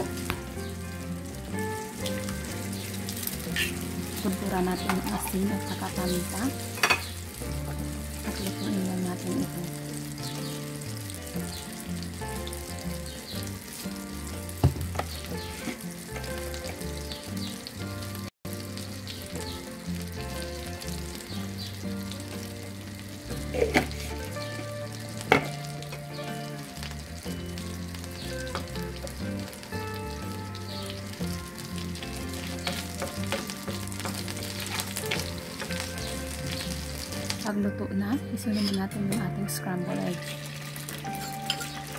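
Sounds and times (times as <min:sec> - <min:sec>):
eggs sizzling in a pan: 0:00.0 - 0:41.9.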